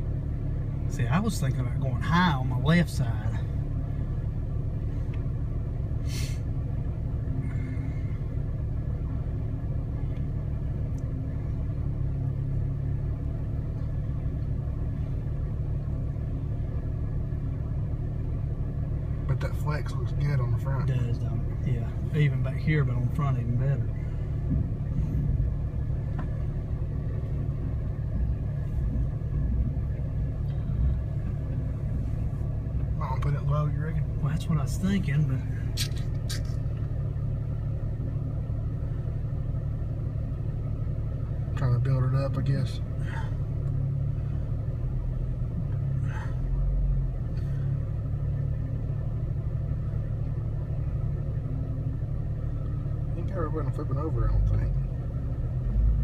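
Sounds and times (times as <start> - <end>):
vehicle engine running at low revs: 0.0 - 56.0.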